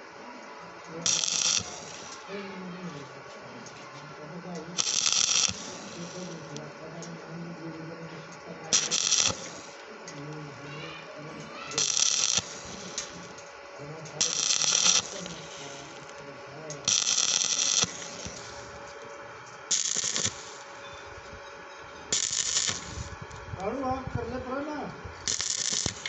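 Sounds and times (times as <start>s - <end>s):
welding arc sizzling: 0.0s - 26.0s.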